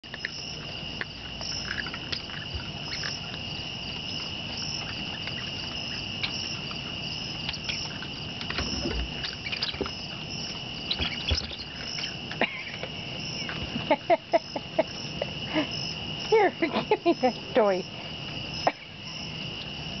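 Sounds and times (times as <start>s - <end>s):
crickets trilling: 0.0s - 20.0s
pulsing insect chirp: 0.0s - 20.0s.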